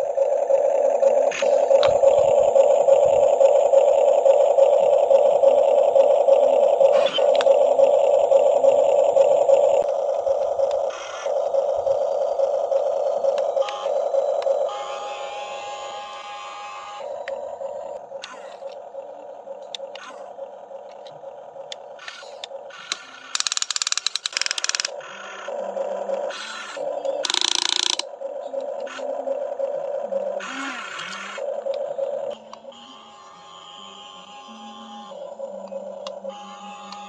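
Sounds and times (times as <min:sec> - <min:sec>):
gears ratcheting clatter: 0:00.0 - 0:32.8
small electric motors whirring: 0:00.0 - 0:37.0.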